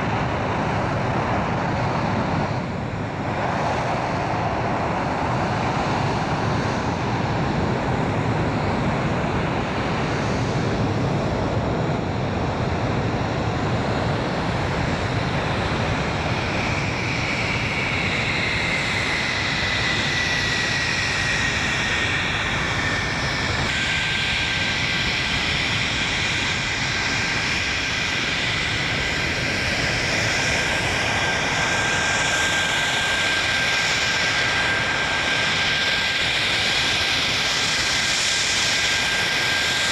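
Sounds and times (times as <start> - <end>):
jet engines rushing and whining: 0.0 - 39.9.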